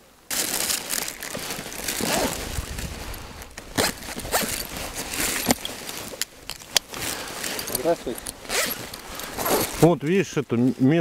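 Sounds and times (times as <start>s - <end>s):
brushing through dry weed stalks: 0.3s - 6.2s, 6.8s - 11.0s
footsteps in snow: 0.3s - 6.2s, 6.8s - 11.0s.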